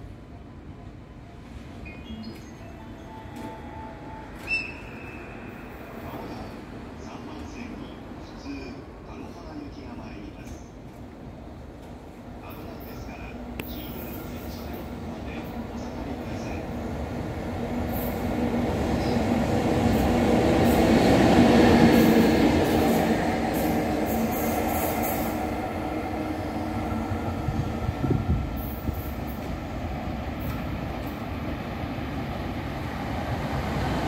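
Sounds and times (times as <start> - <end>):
electric locomotive passing: 0.0 - 9.0, 12.7 - 34.0.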